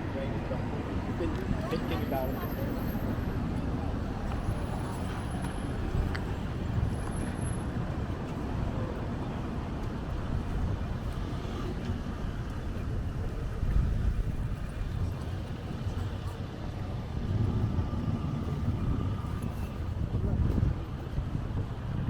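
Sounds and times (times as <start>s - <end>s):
city street noise: 0.0s - 22.0s
wind buffeting microphone: 0.0s - 22.0s.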